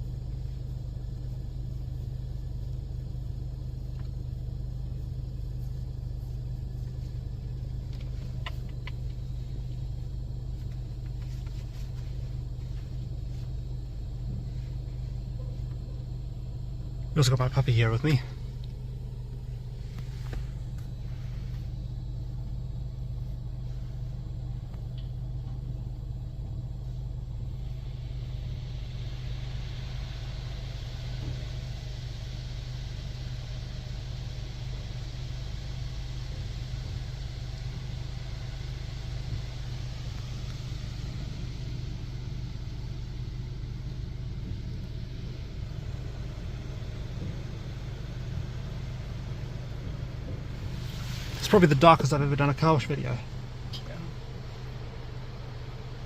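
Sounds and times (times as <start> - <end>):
car wash spray hissing: 0.0 - 56.0
low hum inside car: 0.0 - 56.0.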